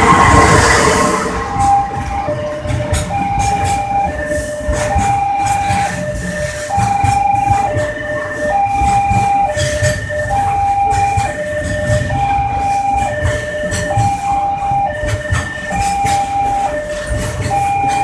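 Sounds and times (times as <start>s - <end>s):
freight wagons rumbling on rails: 0.0s - 18.0s
two-tone electronic warning signal: 0.0s - 18.0s.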